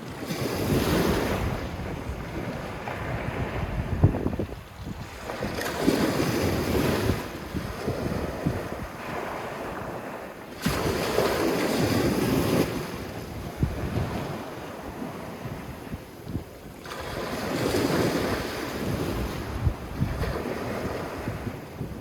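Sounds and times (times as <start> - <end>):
waves breaking on beach: 0.0 - 22.0
wind rumbling on microphone: 0.0 - 22.0.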